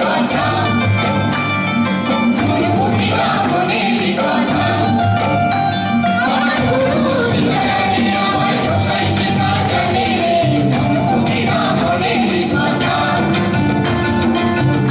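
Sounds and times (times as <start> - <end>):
instrumental accompaniment: 0.0 - 14.9.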